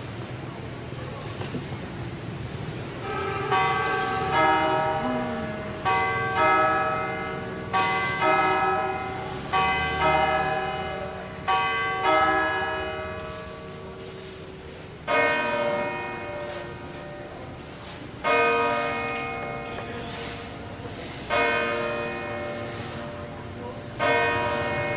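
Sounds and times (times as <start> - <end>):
church bells ringing: 3.0 - 24.9.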